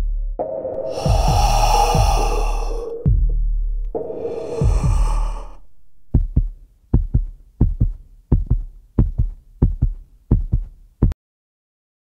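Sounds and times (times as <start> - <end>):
heartbeat thumps: 0.8 - 11.2.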